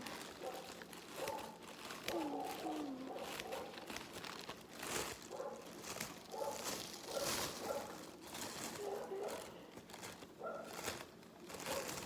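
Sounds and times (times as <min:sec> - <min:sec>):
paper crinkling: 0:00.0 - 0:12.0.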